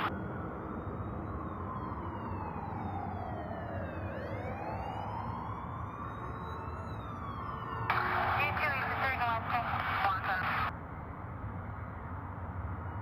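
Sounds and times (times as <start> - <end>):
police siren wailing: 0.0 - 10.7, 12.4 - 13.0.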